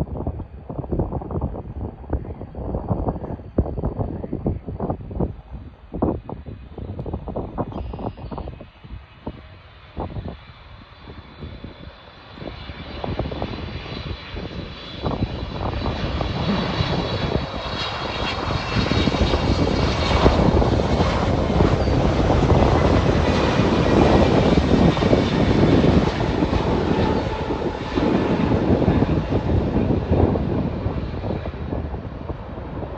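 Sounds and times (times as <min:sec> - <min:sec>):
jet engines passing: 0:00.0 - 0:32.9.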